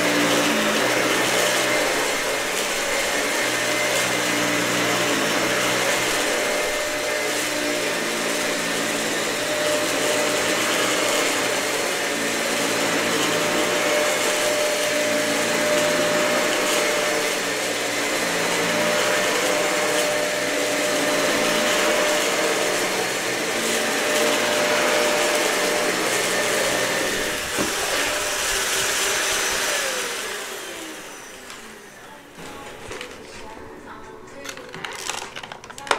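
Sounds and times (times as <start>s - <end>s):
vacuum cleaner on carpet: 0.0s - 35.9s.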